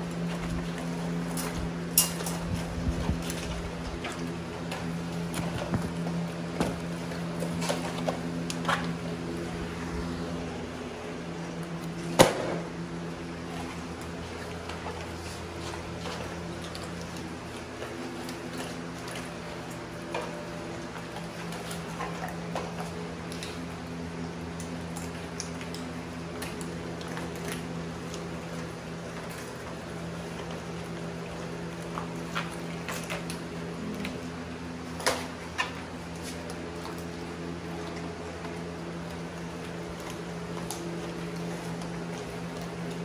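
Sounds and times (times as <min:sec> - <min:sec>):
dogs crunching fish: 0:00.0 - 0:43.0
steady hum: 0:00.0 - 0:43.0.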